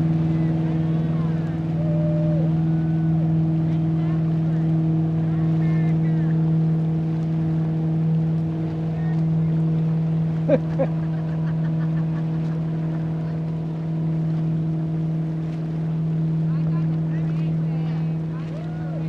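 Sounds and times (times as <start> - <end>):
motorboat engine droning: 0.0 - 19.0.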